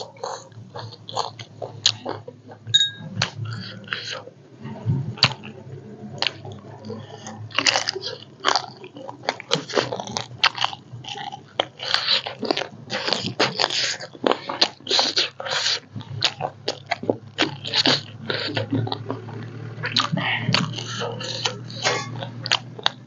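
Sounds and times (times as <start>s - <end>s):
person chewing crunchy food: 0.0s - 4.3s, 5.2s - 5.6s, 6.2s - 23.0s.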